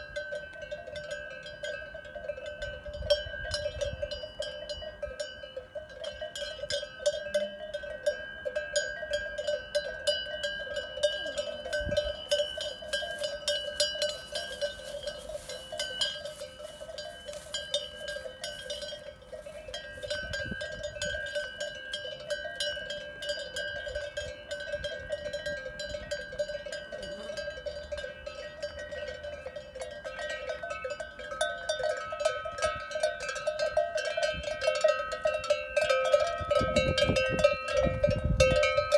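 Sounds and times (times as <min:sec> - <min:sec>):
cowbells clanking: 0:00.0 - 0:38.9.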